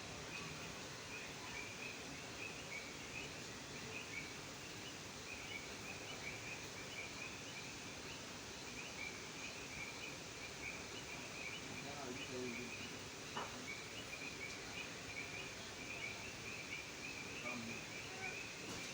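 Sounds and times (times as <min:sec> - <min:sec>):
steady background hiss: 0:00.0 - 0:18.9
frogs chirping: 0:00.1 - 0:18.9.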